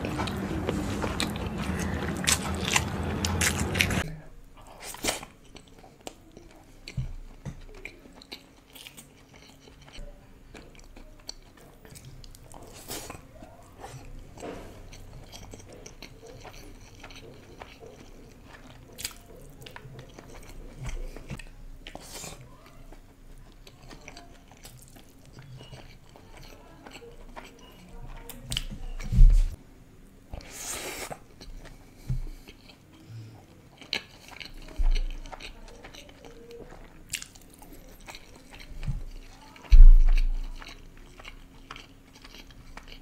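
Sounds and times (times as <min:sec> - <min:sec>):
man chewing food: 0:00.0 - 0:29.6, 0:30.3 - 0:43.0.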